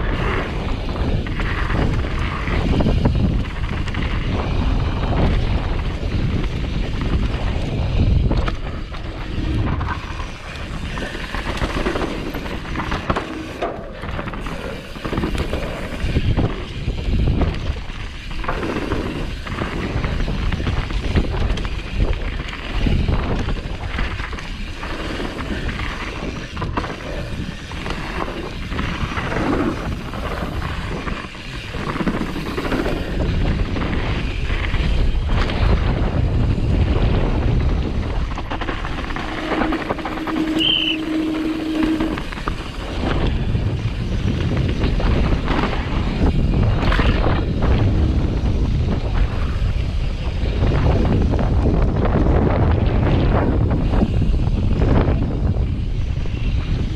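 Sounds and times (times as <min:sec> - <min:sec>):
mountain bike rattling on trail: 0:00.0 - 0:56.9
wind buffeting microphone: 0:00.0 - 0:56.9.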